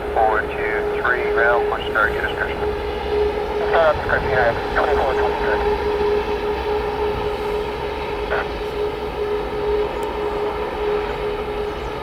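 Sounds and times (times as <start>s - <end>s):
jet engines whining and rumbling: 0.0s - 12.0s.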